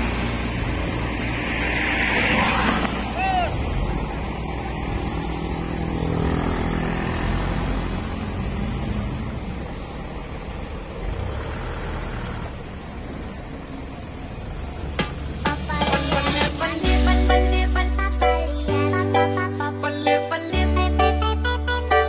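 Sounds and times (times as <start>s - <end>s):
diesel truck engine running: 0.0s - 19.7s.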